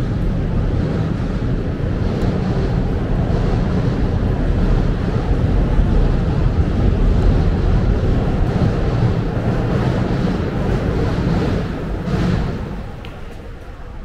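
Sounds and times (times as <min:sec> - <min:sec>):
city traffic noise: 0:00.0 - 0:14.0
wind buffeting microphone: 0:00.0 - 0:14.0.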